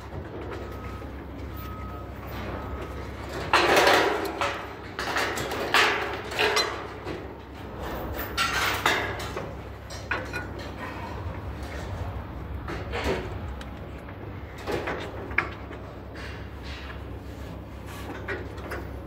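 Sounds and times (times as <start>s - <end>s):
metal studs clanking: 0.0s - 17.2s
steady low hum: 0.0s - 19.0s.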